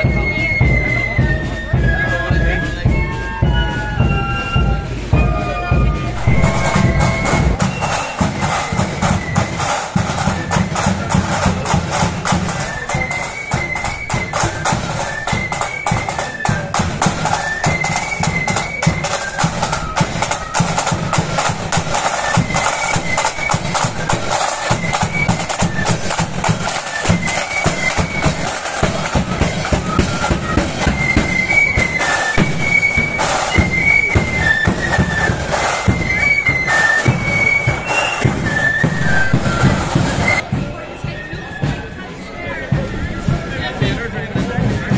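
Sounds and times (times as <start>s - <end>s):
drums beating: 0.0s - 44.9s
flute melody: 0.0s - 44.9s.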